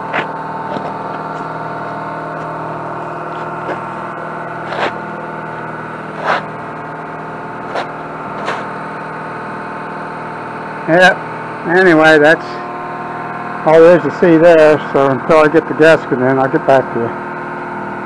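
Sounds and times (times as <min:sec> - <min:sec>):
machine humming steadily: 0:00.0 - 0:18.0.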